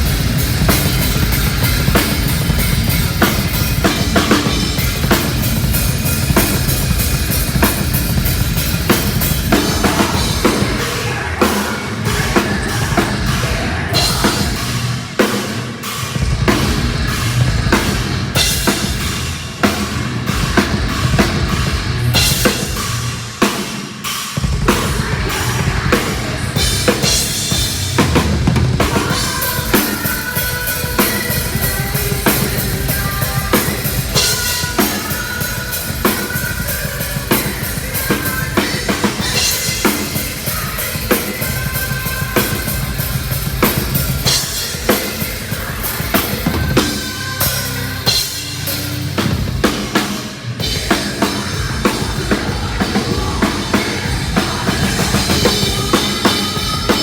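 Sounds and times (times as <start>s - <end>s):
drum kit beat: 0.0s - 57.0s
heavy metal band playing live: 0.0s - 57.0s.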